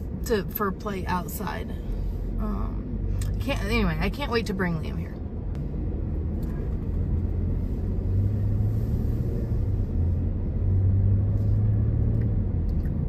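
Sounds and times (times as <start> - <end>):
car engine rumble: 0.0 - 13.0
tyres on road: 0.0 - 13.0.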